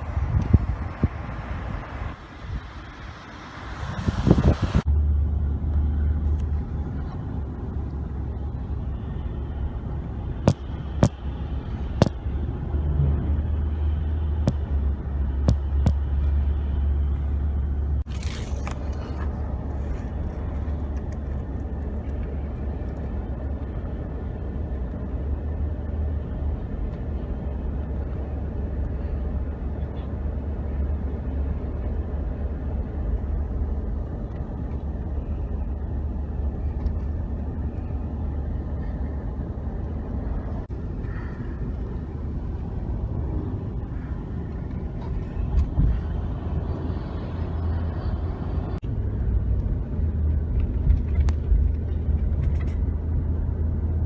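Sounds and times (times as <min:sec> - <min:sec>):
low vehicle rumble: 0:00.0 - 0:54.0.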